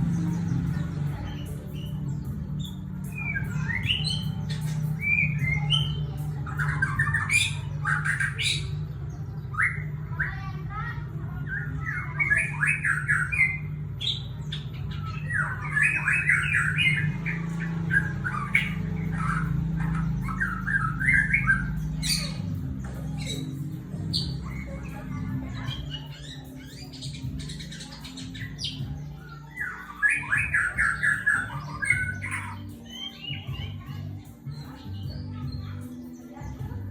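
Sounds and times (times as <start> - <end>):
bird singing chattering phrases: 0.0 - 36.9.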